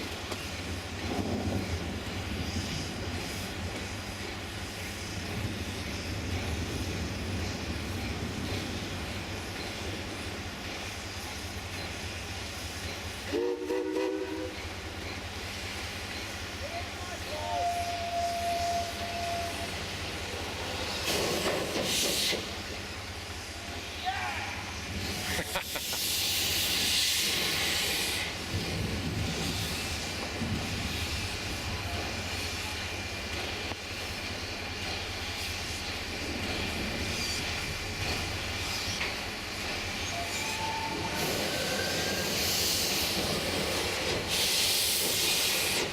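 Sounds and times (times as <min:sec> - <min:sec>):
steam locomotive rumble and hiss: 0:00.0 - 0:45.9.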